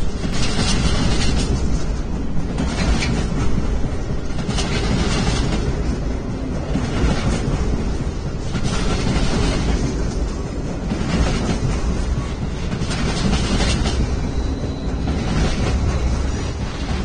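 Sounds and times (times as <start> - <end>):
freight train rumbling past: 0.0 - 17.0
train wheel clicks: 0.0 - 17.0.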